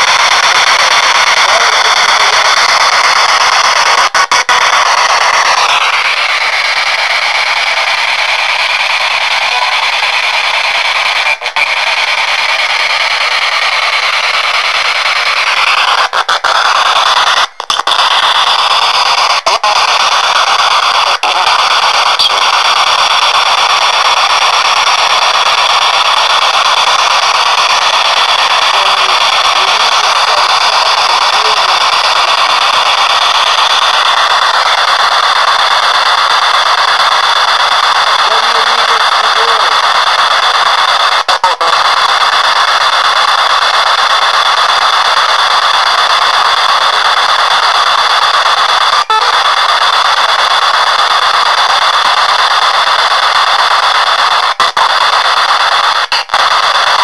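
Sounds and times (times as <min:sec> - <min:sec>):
loud radio static: 0:00.0 - 0:57.0
snatches of radio voices: 0:00.0 - 0:57.0.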